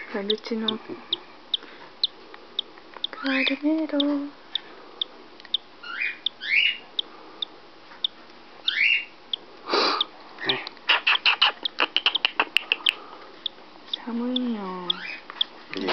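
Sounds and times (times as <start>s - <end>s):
chick peeping: 0.0s - 15.5s.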